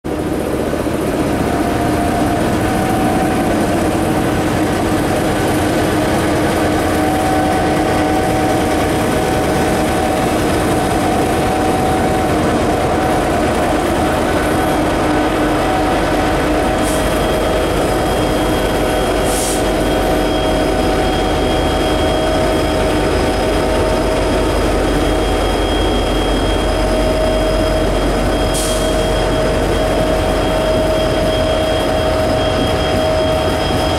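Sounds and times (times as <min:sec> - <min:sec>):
diesel locomotive engines droning: 0:00.0 - 0:33.9
rumble of moving train: 0:00.0 - 0:33.9.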